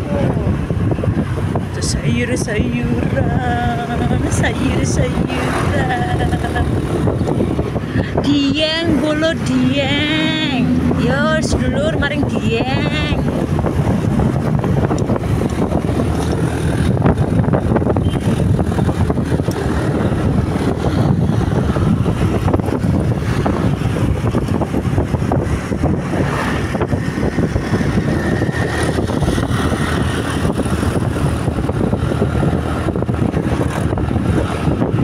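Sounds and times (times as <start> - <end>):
wind rushing over microphone: 0.0 - 35.0
motorcycle engine running: 2.6 - 35.0.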